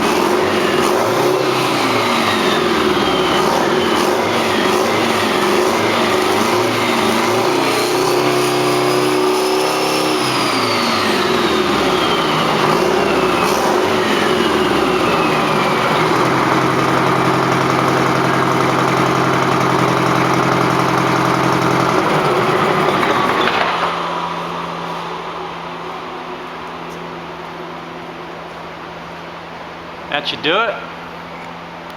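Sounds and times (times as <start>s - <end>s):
diesel engine revving: 0.0s - 30.0s
high engine whine: 0.0s - 31.9s.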